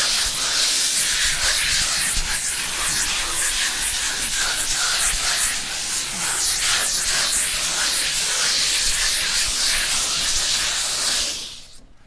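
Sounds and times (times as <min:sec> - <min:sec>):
sandpaper rubbing on wall: 0:00.0 - 0:11.8.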